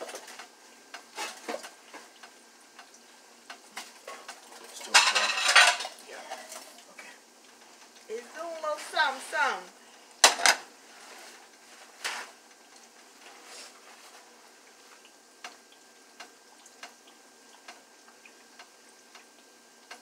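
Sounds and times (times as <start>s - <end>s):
dough frying in hot oil: 0.0s - 20.0s.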